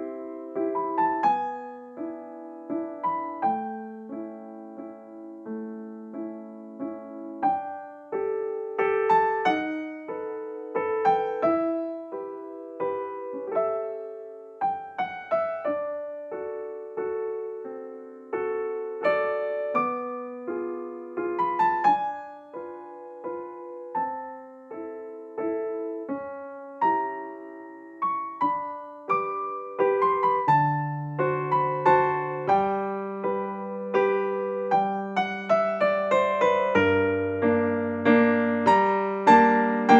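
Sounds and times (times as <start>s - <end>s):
gentle piano music: 0.0s - 39.9s.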